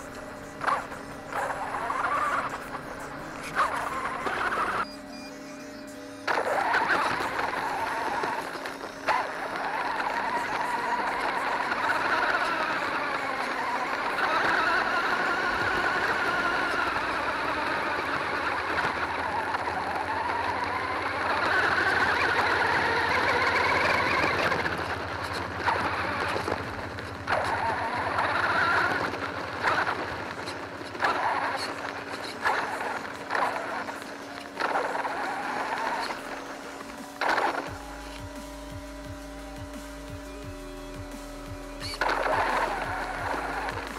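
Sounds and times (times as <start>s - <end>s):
toy truck motor whine: 0.0s - 43.9s
tyres on gravel: 0.0s - 43.9s.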